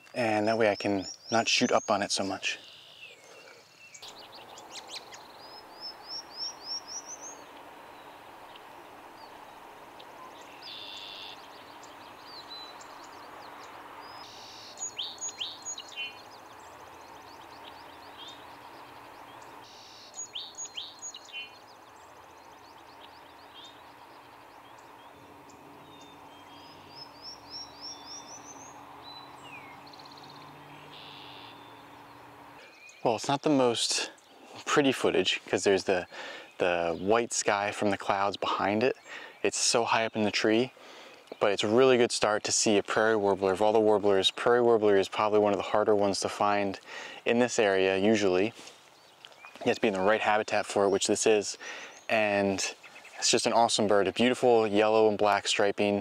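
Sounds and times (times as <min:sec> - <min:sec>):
outdoor background hiss: 0:00.0 - 0:56.0
songbirds singing: 0:00.0 - 0:56.0
warbler rising song: 0:00.0 - 0:56.0.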